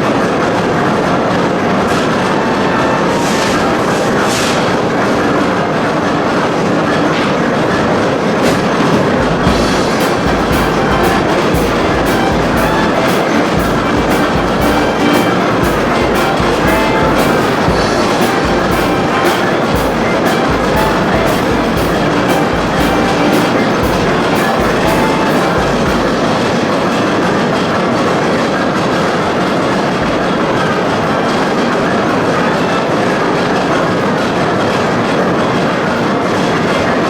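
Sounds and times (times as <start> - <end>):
heavy rhythmic knocking: 0.0 - 37.0
steam machinery clatter: 0.0 - 37.0.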